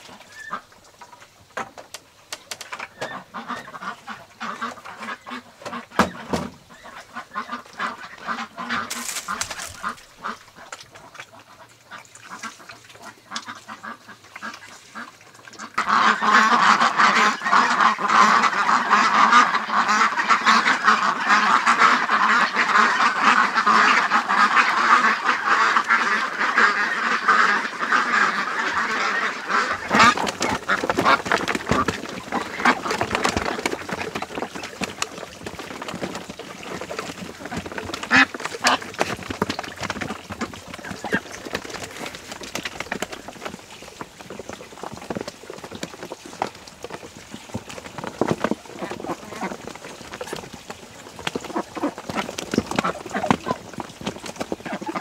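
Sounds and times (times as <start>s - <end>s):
ducks quacking: 0.0s - 0.7s, 2.7s - 55.0s.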